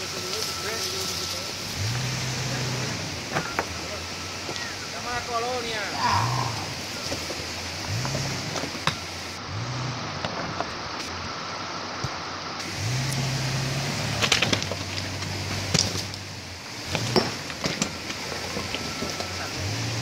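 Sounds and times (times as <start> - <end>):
stones crunching under tyres: 0.0 - 9.4, 12.0 - 20.0
off-road vehicle engine revving: 0.0 - 11.8, 12.6 - 20.0.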